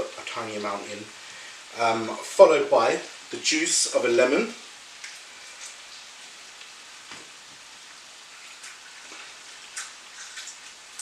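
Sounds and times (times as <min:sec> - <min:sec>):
pasta sizzling in a frying pan: 0:00.0 - 0:11.0.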